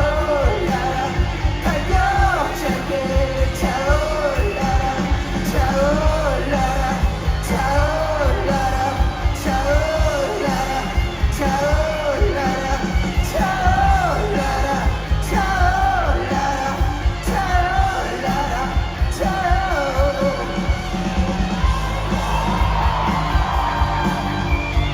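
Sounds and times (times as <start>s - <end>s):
lead vocal singing: 0.0s - 24.9s
live rock band playing: 0.0s - 24.9s.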